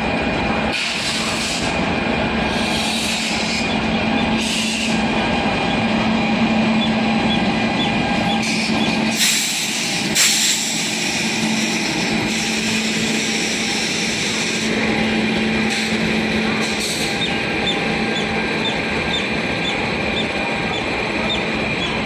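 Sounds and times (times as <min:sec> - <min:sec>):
train rushing past: 0:00.0 - 0:22.0
train wheels rumbling on rails: 0:00.0 - 0:22.0.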